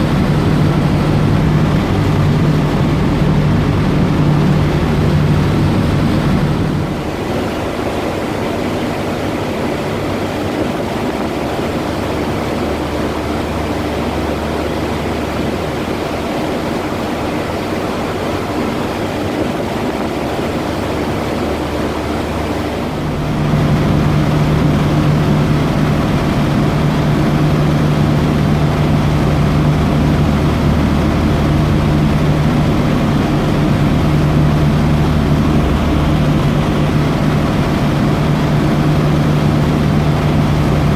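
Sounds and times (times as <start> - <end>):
ferry engine hum: 0.0 - 40.9
steady rushing noise: 0.0 - 40.9.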